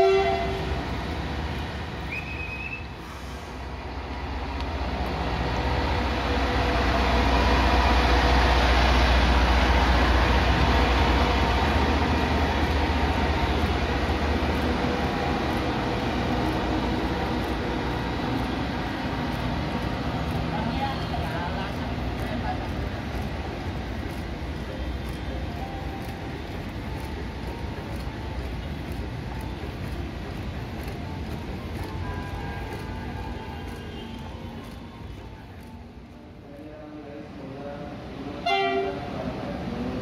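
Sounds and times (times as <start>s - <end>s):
locomotive diesel engine rumbling: 0.0s - 40.0s.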